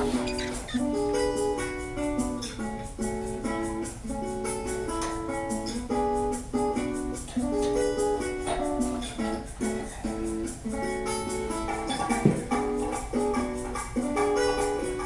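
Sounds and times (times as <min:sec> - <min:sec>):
upbeat plucked guitar music: 0:00.0 - 0:15.0.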